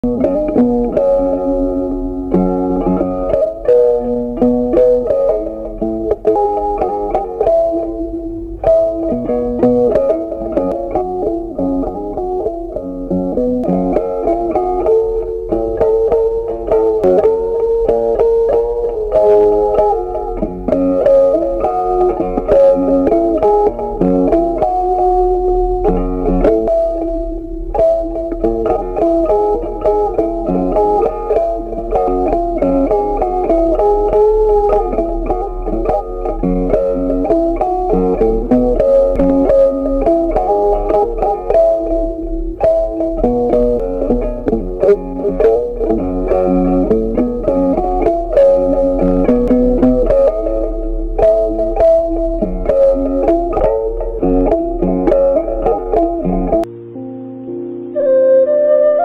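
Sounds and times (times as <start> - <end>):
plucked guitar melody: 0.0 - 59.0.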